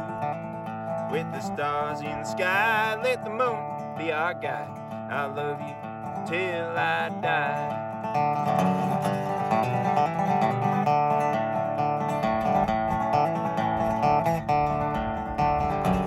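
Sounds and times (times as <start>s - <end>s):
acoustic guitar strummed and picked: 0.0s - 16.0s
plucked strings: 0.0s - 16.0s.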